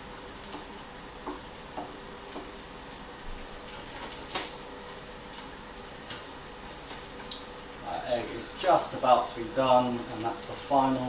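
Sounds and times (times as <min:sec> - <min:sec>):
egg sizzling in a pan: 0:00.0 - 0:11.0.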